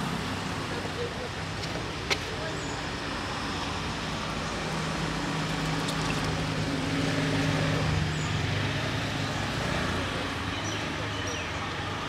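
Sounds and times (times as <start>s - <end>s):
outdoor noise: 0.0s - 12.0s.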